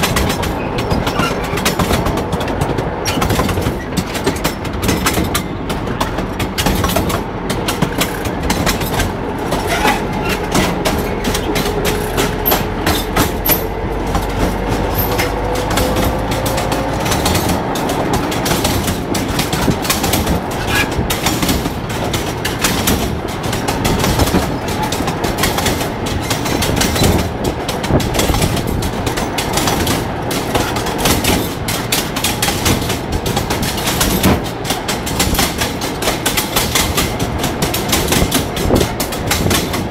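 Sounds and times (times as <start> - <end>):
wheels clattering over track: 0.0 - 39.9.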